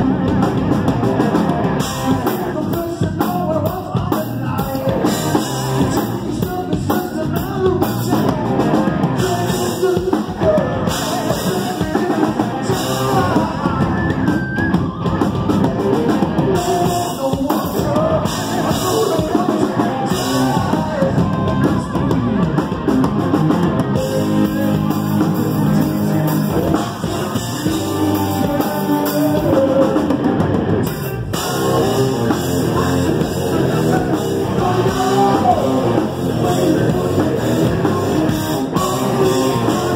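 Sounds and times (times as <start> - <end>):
drum kit: 0.0 - 39.9
electric guitar: 0.0 - 39.9
live rock band: 0.0 - 39.9
person singing: 1.3 - 39.9.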